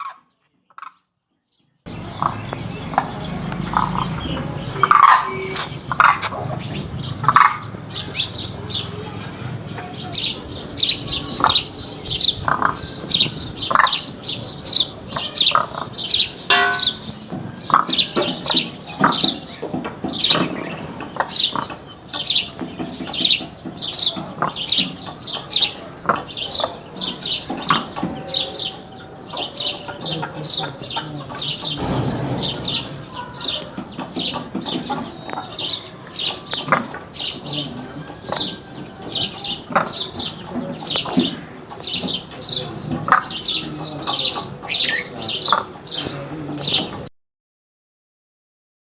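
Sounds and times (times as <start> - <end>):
crane chick peeping: 0.0 - 1.0, 1.9 - 47.0
lower bird calls: 1.7 - 46.9.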